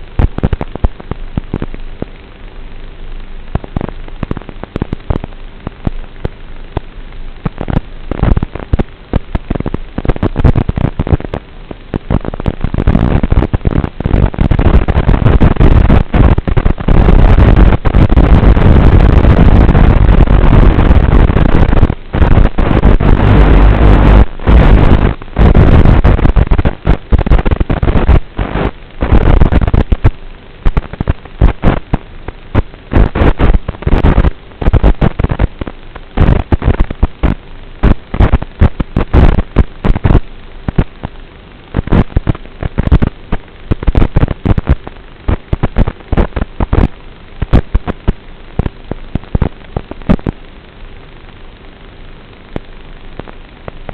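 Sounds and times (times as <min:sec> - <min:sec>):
harsh static hiss with crackles: 0:00.0 - 0:53.9.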